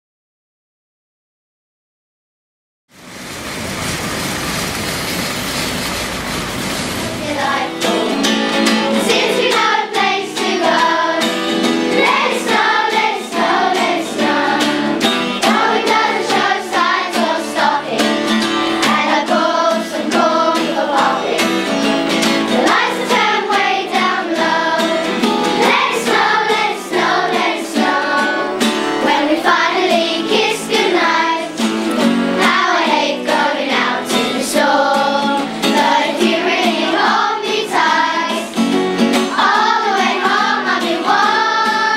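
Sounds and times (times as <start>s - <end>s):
children's choir singing: 5.9s - 41.9s.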